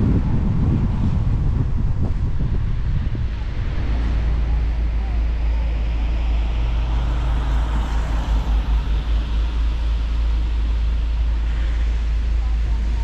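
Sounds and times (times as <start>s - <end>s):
heavy low rumble: 0.0s - 13.0s.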